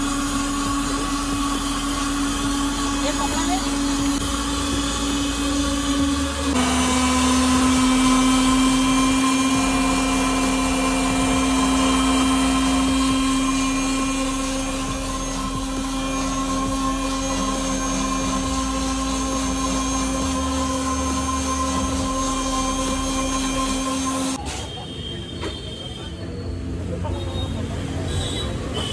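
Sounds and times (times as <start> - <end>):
electric motor humming: 0.0 - 24.4.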